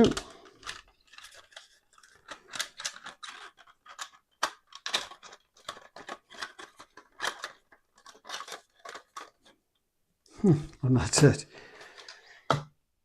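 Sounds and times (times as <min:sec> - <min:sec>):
plastic parts clicking and scraping: 0:00.0 - 0:09.6, 0:11.0 - 0:12.7.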